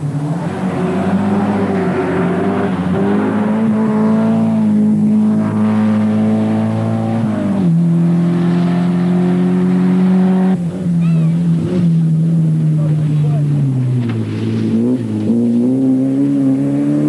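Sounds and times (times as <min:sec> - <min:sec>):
rally car engine passing by: 0:00.0 - 0:17.0.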